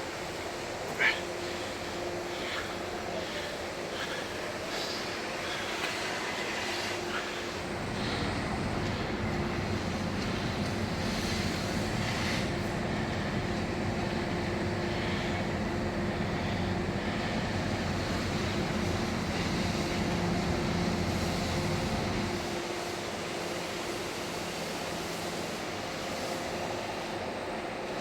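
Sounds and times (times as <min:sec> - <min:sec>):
heavy machinery diesel drone: 0:00.0 - 0:28.0.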